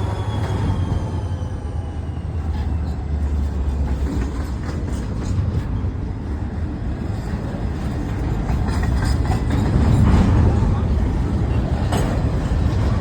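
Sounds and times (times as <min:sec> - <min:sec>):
diesel locomotive rumbling: 0:00.0 - 0:13.0
faint train clicks: 0:00.0 - 0:13.0.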